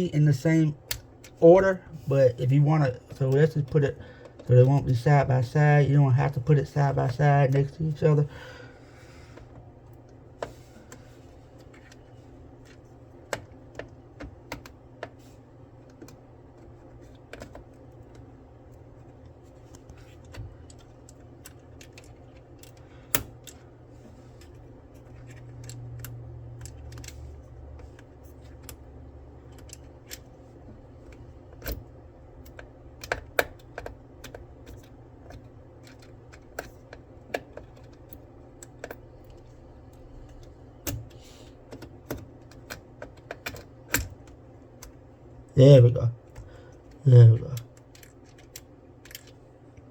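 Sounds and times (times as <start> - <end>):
low steady hum: 0.0 - 49.9.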